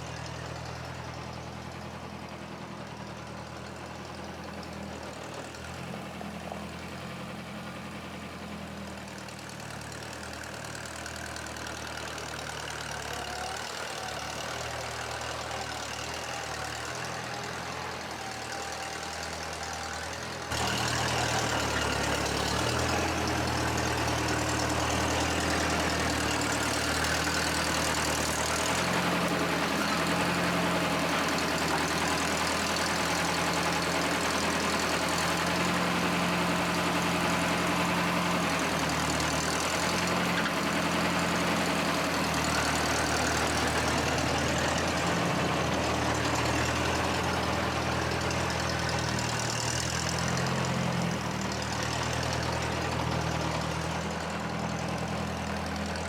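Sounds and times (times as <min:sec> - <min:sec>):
forklift engine idling: 0:00.0 - 0:56.0.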